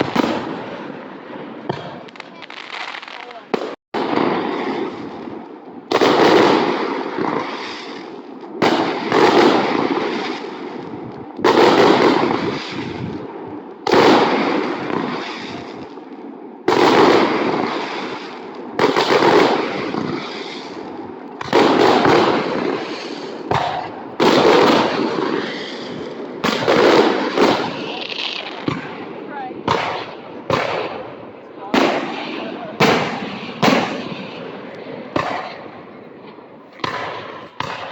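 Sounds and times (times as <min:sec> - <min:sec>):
fireworks booming and crackling: 0:00.0 - 0:37.9.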